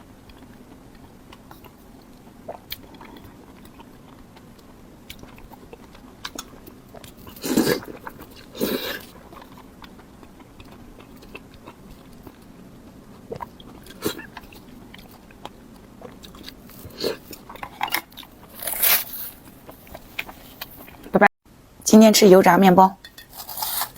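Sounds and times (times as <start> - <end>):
person biting and chewing food: 0.3 - 21.1, 23.2 - 23.9.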